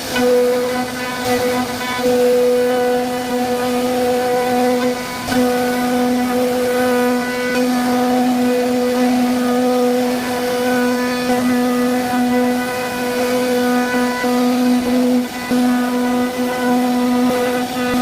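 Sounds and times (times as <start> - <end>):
hiss of cutting wood: 0.0 - 18.0
wood router whining: 0.0 - 18.0.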